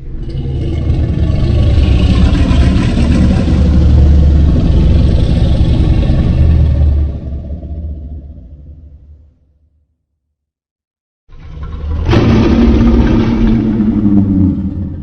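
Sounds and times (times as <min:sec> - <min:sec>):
monster roar: 0:00.0 - 0:08.7, 0:11.5 - 0:15.0.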